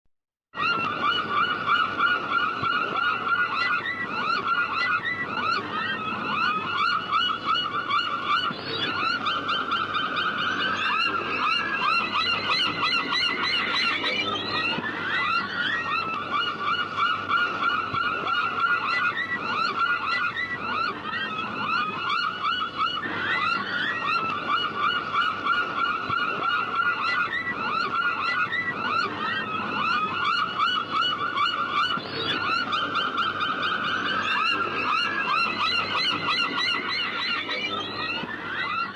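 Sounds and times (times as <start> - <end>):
seagulls calling: 0.6 - 38.9.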